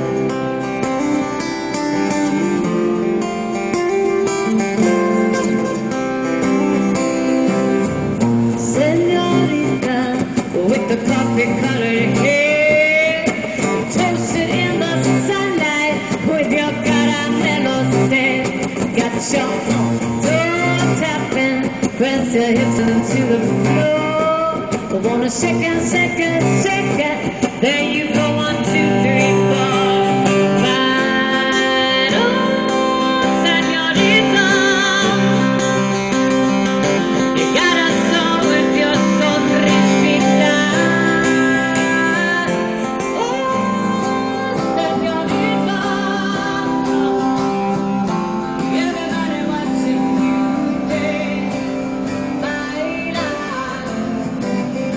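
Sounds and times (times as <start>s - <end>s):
acoustic guitar strumming: 0.0s - 54.9s
woman singing: 8.5s - 54.9s.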